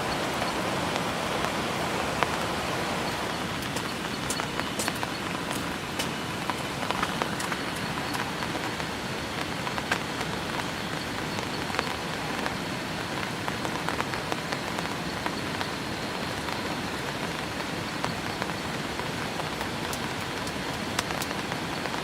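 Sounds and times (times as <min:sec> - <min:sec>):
sharp drop impacts ticking: 0:00.0 - 0:21.4
steady rain falling: 0:00.0 - 0:22.0.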